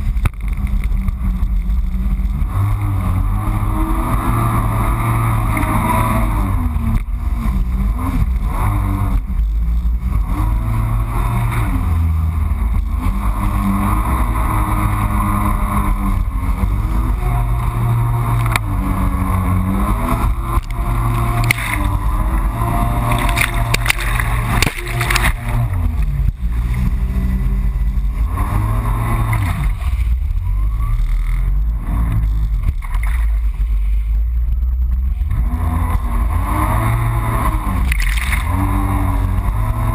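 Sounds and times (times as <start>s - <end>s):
personal watercraft engine running: 0.0s - 39.9s
water and wind noise: 0.0s - 39.9s.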